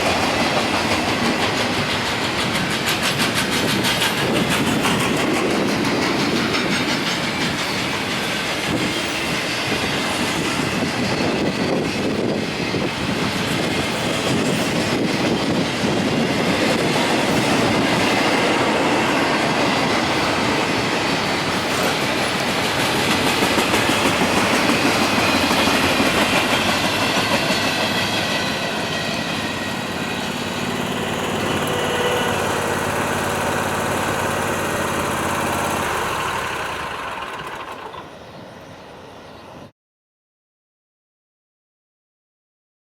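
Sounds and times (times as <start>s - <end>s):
train wheels clacking on rails: 0.0s - 38.2s.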